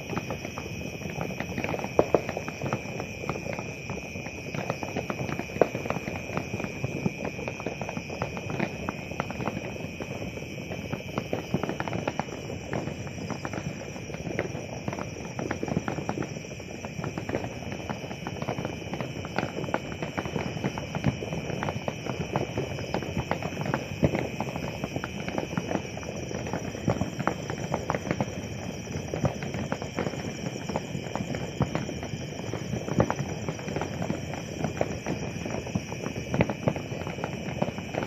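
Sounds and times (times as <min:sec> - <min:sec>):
fireworks crackling and popping: 0:00.0 - 0:38.0.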